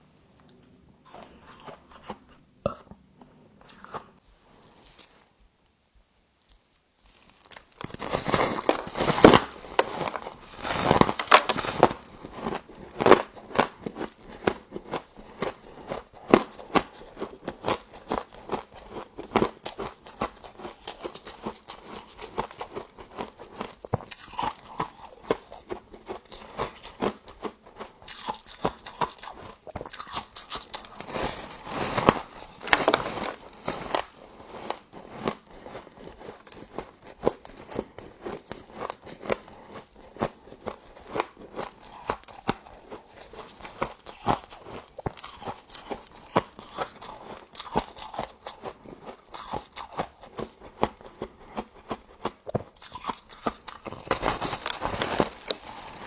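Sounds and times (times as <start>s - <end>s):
crunching and chewing frost: 0.5s - 5.3s, 6.5s - 56.0s.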